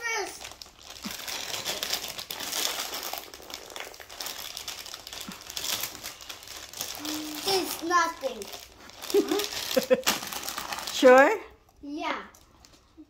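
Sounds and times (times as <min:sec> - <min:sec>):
chip bags crinkling: 0:00.0 - 0:11.4.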